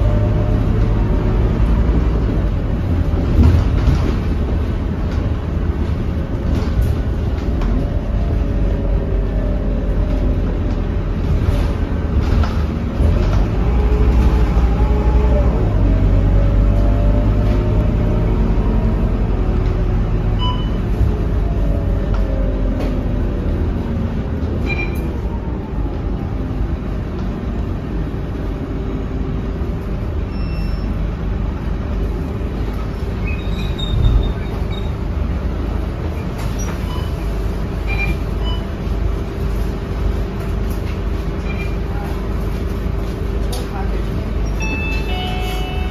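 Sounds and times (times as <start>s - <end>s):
bus diesel engine: 0.0s - 45.9s.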